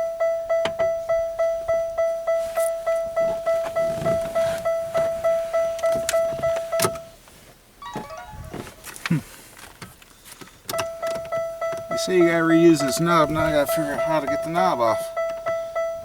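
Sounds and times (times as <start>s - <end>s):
dashboard warning chime dinging: 0.0s - 7.2s, 7.8s - 10.0s, 10.7s - 16.0s.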